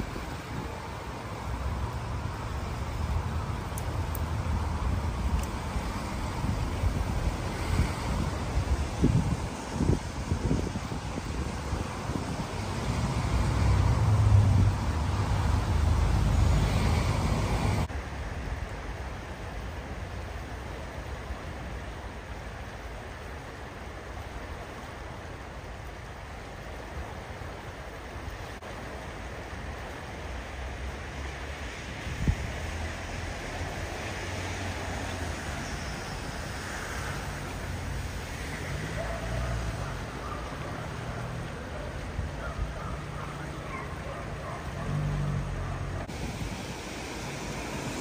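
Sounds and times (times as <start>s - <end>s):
floodwater rushing: 0.0s - 48.0s.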